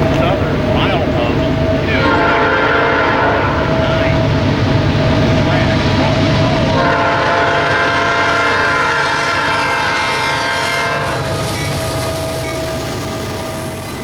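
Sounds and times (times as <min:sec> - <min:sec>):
train wheels clacking on rails: 0:00.0 - 0:14.0
locomotive air horn: 0:01.5 - 0:14.0.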